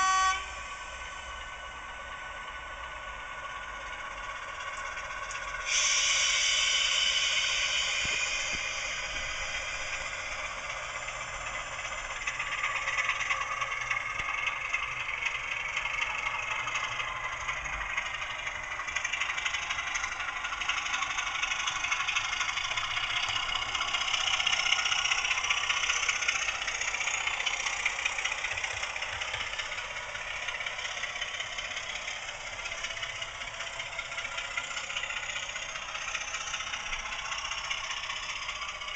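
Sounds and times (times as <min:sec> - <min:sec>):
diesel engine through small speaker: 0:00.0 - 0:38.9.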